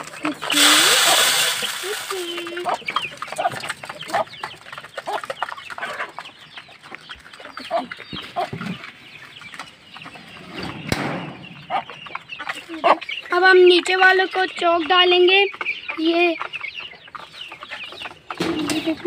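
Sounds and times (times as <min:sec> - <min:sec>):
beaks pecking on metal feed pan: 0:00.0 - 0:19.0
chicks peeping: 0:00.0 - 0:19.0
hens clucking: 0:00.0 - 0:19.0.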